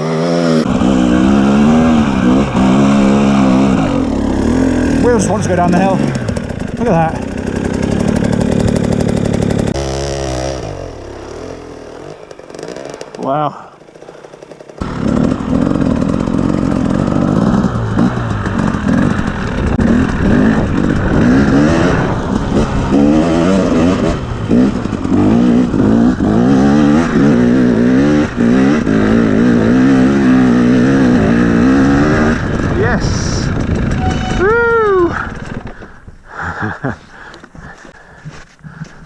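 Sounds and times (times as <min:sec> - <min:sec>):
dirt bike engine revving: 0:00.0 - 0:37.8.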